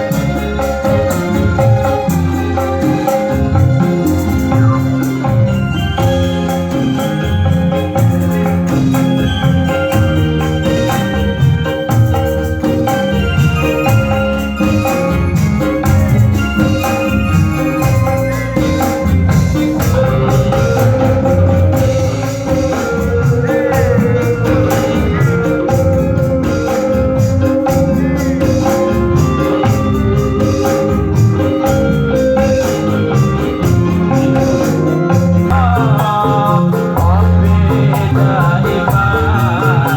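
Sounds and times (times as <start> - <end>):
electronic keyboard melody: 0.0 - 39.9
frame drum and jingle rhythm: 0.0 - 39.9.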